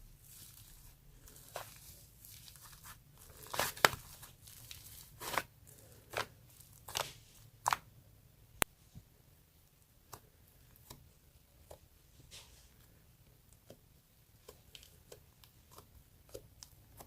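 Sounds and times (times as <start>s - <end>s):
dough tearing and squishing: 0.0s - 8.7s, 9.4s - 17.0s.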